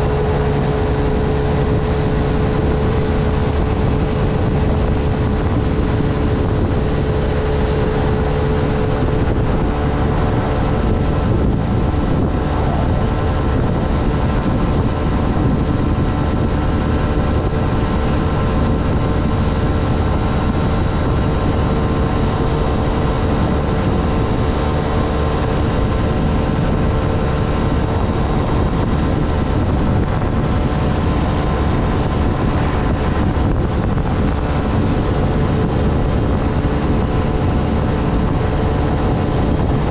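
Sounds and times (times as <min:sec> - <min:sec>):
road noise: 0:00.0 - 0:39.9
small engine cruising: 0:00.0 - 0:39.9
steady whine: 0:00.0 - 0:39.9
wind noise: 0:00.0 - 0:39.9.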